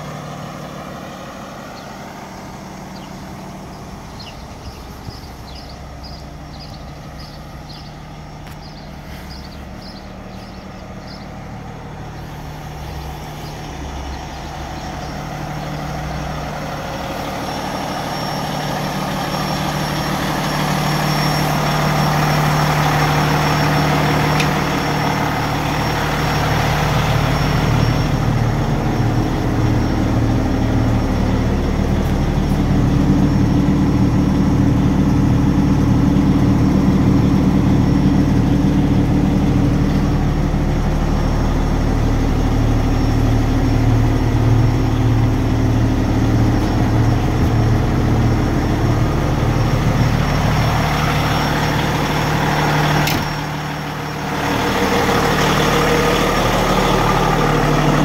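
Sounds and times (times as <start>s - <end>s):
fire truck diesel engine idling: 0.0s - 58.0s.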